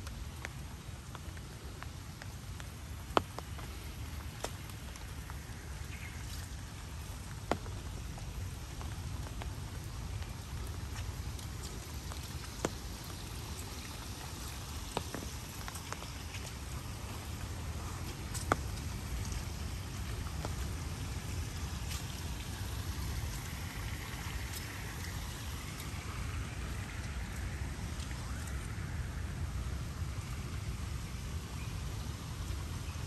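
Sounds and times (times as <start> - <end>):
light rain on leaves: 0.0 - 33.0
steady low rumble: 0.0 - 33.0.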